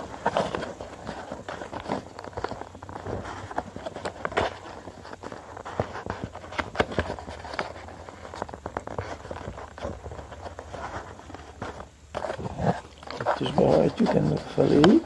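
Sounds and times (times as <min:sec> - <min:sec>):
paper being folded and creased: 0:00.0 - 0:15.0.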